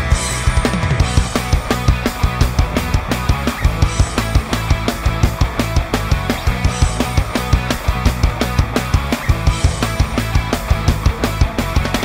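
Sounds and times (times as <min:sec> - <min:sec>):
fast drum beat: 0:00.0 - 0:12.0
rock music: 0:00.0 - 0:12.0.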